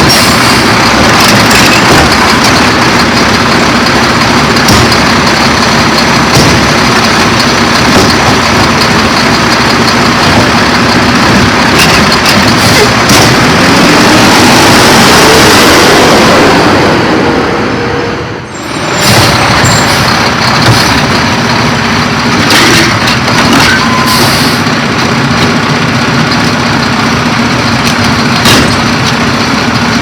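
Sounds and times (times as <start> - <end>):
garbage truck engine revving: 0.0 - 30.0.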